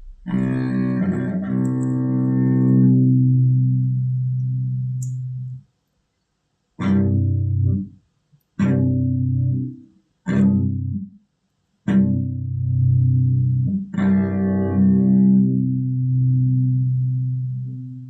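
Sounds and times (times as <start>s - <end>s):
guitar chords strummed: 0.0s - 5.6s, 6.8s - 7.8s, 8.6s - 11.0s, 11.9s - 18.0s.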